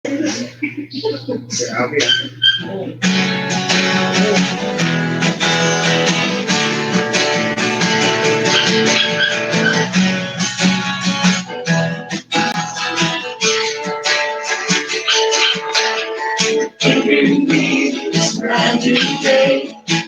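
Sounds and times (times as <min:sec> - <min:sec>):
acoustic guitar strumming chords: 0:00.1 - 0:20.0.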